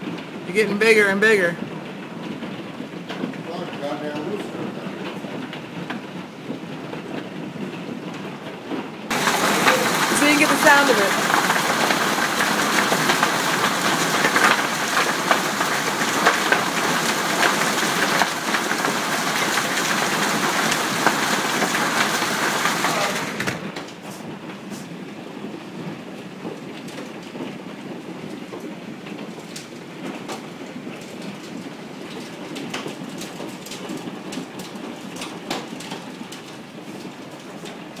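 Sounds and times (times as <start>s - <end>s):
hail and rain pelting down: 0.0s - 38.0s
hailstones clicking: 0.0s - 38.0s.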